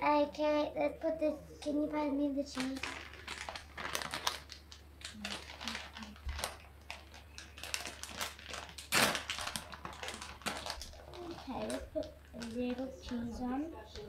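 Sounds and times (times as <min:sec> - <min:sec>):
plastic packet crinkling: 0:02.4 - 0:14.0.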